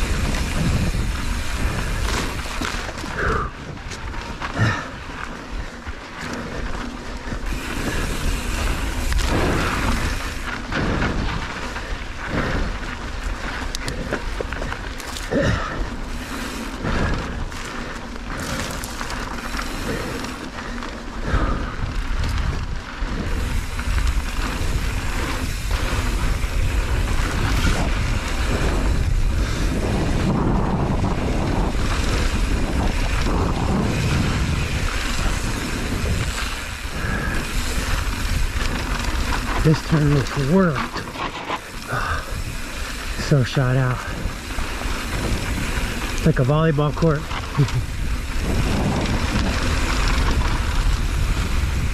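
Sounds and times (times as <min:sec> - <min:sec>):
bike knocking and rattling: 0:00.0 - 0:51.9
tyres crunching on dirt: 0:00.0 - 0:51.9
wind buffeting microphone: 0:00.0 - 0:51.9.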